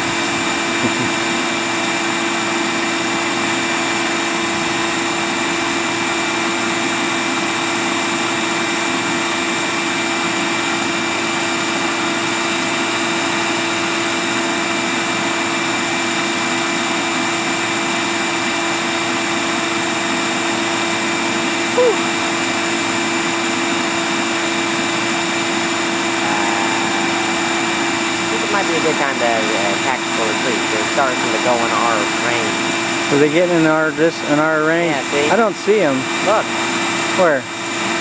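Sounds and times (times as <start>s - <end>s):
vacuum motor humming: 0.0s - 38.0s.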